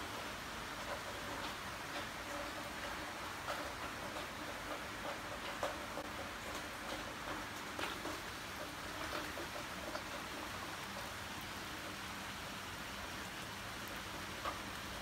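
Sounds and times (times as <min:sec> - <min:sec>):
rain on wet paving and leaves: 0:00.0 - 0:15.0.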